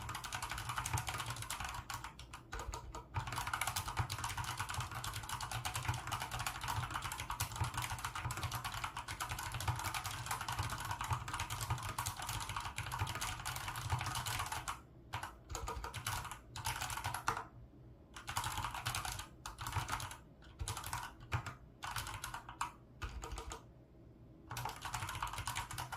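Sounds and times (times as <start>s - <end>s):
mechanical keyboard typing: 0.0s - 17.5s, 18.2s - 23.7s, 24.5s - 25.9s.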